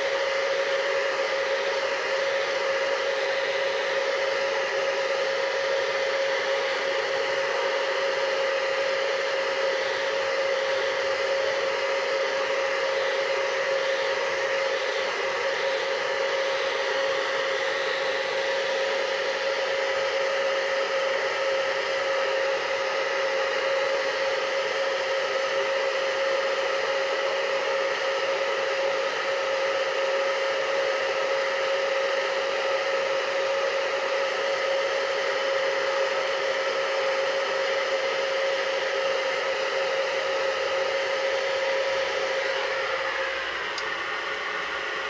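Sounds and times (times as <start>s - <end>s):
hair dryer running: 0.0s - 45.0s.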